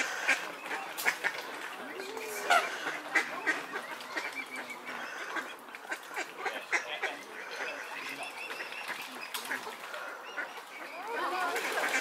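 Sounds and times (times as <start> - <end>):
waterbirds calling: 0.0 - 12.0.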